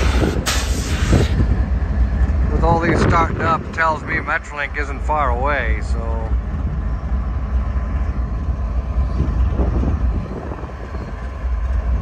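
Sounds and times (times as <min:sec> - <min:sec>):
diesel locomotives idling: 0:00.0 - 0:12.0.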